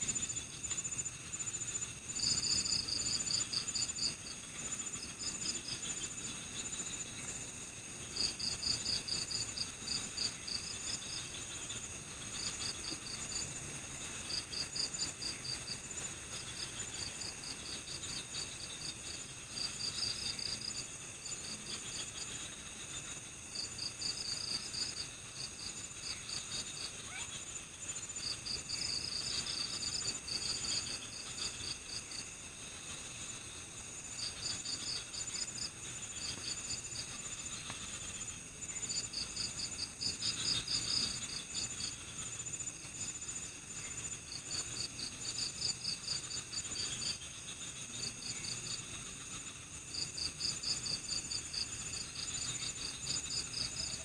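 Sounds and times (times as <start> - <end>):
cricket chirping: 0.0 - 54.0
insects trilling: 0.1 - 54.0.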